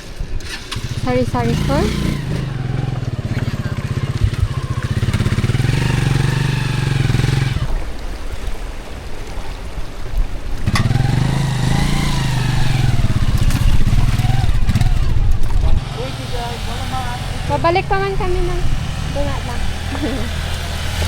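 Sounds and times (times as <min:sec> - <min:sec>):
motorcycle engine running: 0:00.0 - 0:08.0, 0:10.5 - 0:21.0.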